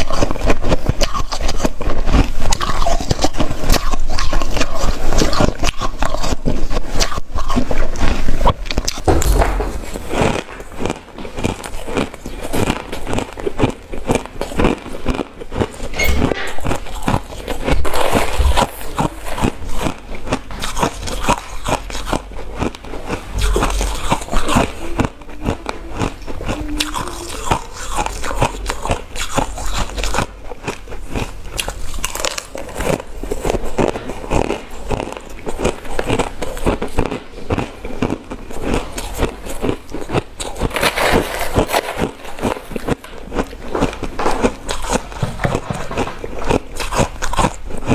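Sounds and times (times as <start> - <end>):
ice crunching between teeth: 0.0 - 47.9.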